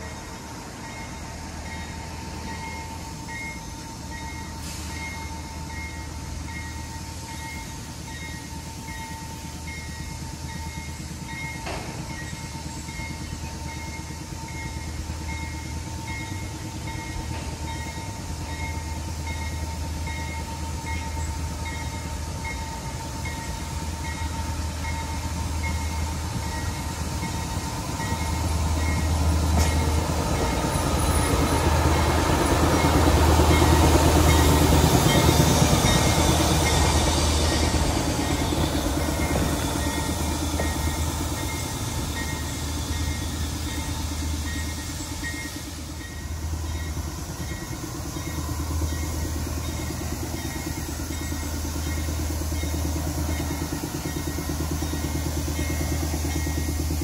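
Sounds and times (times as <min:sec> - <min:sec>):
crossing signal bell ringing: 0:00.0 - 0:57.0
train cars rolling past: 0:00.0 - 0:57.0
train engine rumble: 0:00.0 - 0:57.0.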